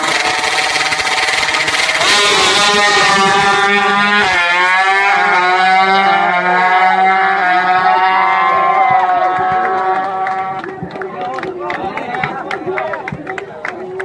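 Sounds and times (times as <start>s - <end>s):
motorcycle engines revving hard: 0.0s - 11.3s.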